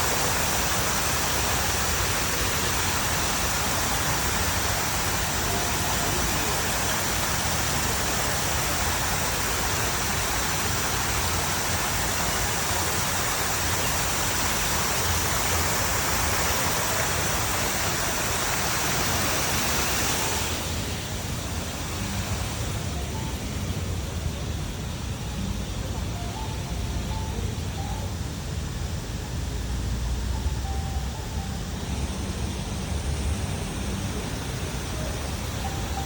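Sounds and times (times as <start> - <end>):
cicadas buzzing in chorus: 0.0 - 36.0.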